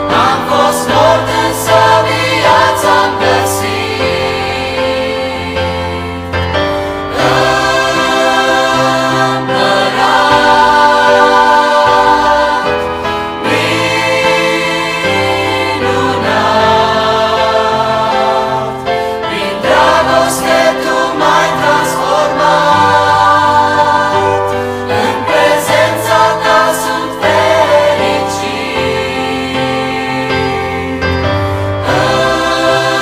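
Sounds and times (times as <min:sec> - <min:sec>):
mixed choir singing: 0:00.0 - 0:33.0
piano accompaniment: 0:00.0 - 0:33.0.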